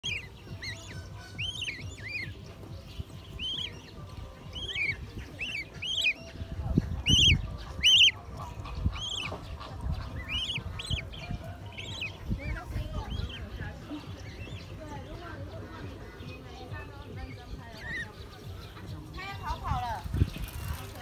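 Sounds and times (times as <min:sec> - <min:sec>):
cygnets peeping: 0:00.0 - 0:21.0.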